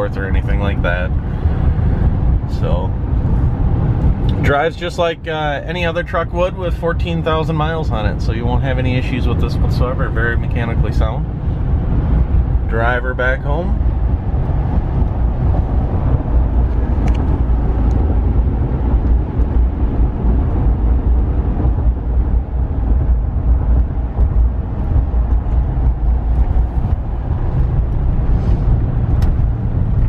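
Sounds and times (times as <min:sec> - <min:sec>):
tyre wind and engine noise: 0:00.0 - 0:30.0.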